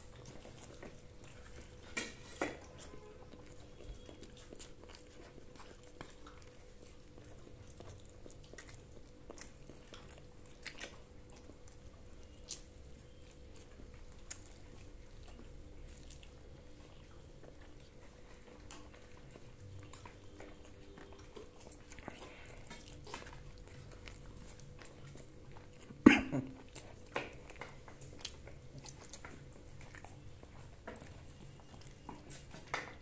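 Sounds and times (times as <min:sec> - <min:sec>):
faint chewing: 0:00.0 - 0:33.0.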